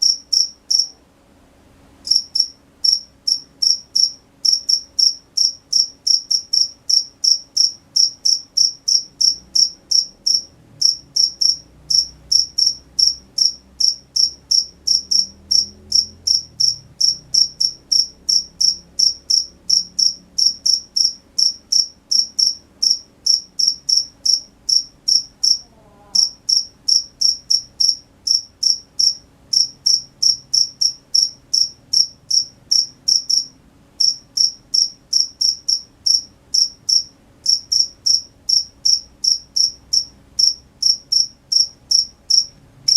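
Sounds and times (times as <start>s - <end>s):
cricket chirping: 0.0s - 1.0s, 2.0s - 42.9s.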